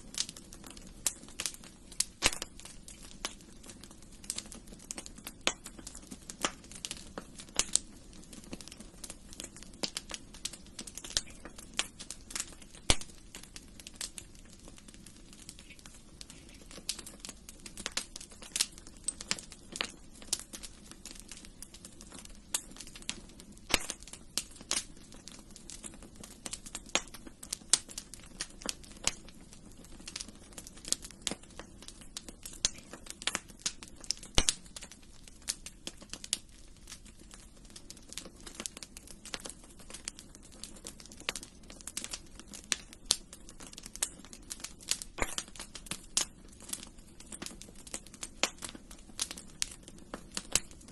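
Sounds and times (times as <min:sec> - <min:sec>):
low steady background noise: 0:00.0 - 0:50.9
wood fire crackling: 0:00.0 - 0:50.9.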